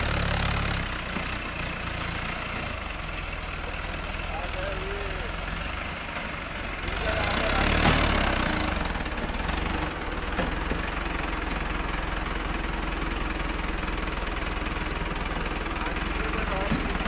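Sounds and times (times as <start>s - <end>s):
tractor diesel engine rumbling: 0.0s - 17.0s.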